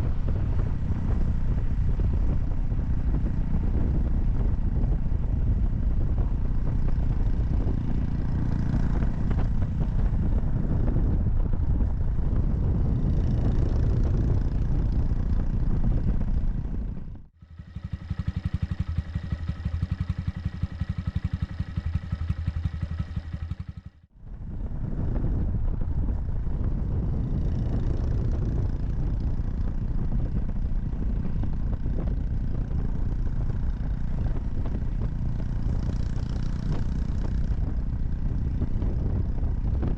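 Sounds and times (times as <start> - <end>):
low riding rumble: 0.0 - 39.9.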